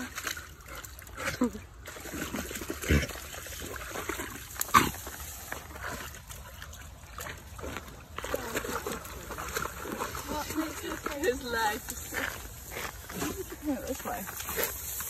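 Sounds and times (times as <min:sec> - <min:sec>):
dogs splashing through puddle: 0:00.0 - 0:15.0.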